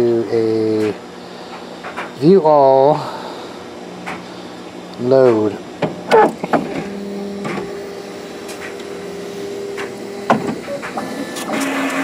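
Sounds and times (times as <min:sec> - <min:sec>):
printer motors humming: 0:00.0 - 0:12.0.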